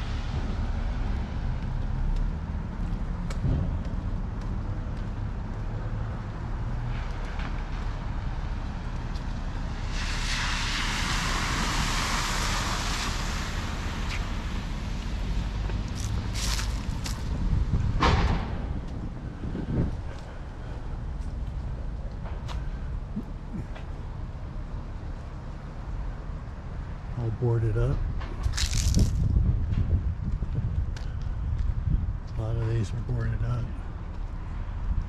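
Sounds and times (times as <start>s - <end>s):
wind rumbling on microphone: 0.0s - 25.1s, 26.0s - 35.0s
street traffic: 0.0s - 35.0s.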